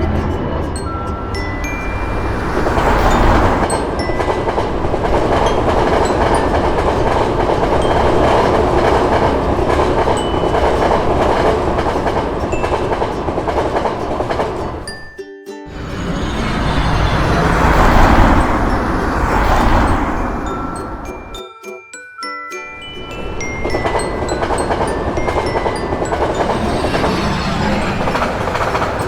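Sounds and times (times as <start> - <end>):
train wheels rumbling on rails: 0.0 - 14.9, 15.7 - 21.4, 23.0 - 29.0.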